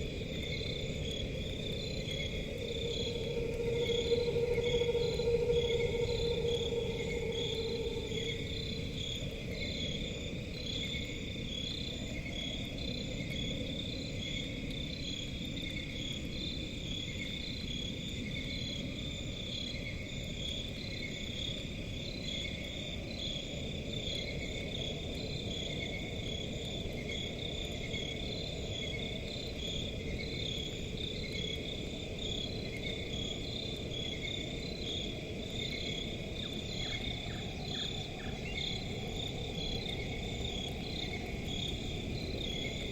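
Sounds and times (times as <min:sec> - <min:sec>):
low constant rumbling: 0:00.0 - 0:16.5, 0:24.2 - 0:42.9
crickets chirping: 0:00.0 - 0:42.9.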